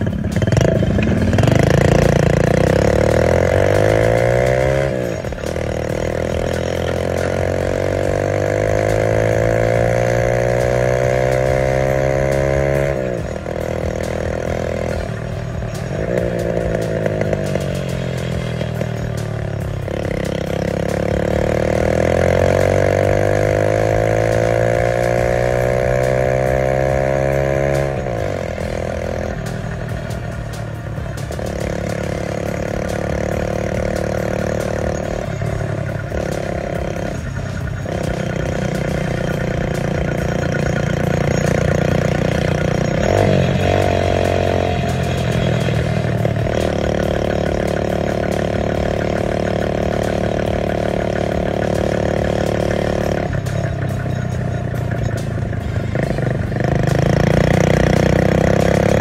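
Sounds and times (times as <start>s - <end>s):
vehicle engine running under load: 0.0s - 59.0s.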